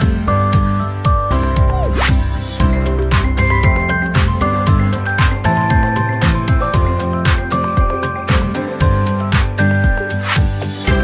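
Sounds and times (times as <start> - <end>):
upbeat music with drum beat: 0.0 - 11.0.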